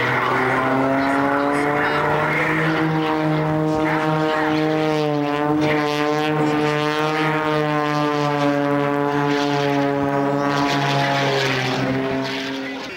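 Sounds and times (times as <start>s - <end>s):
propeller plane engine droning: 0.0s - 12.9s.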